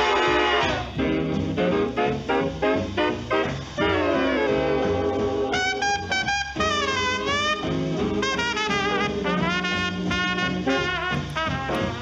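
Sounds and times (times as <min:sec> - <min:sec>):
swing jazz with brass: 0:00.0 - 0:12.0.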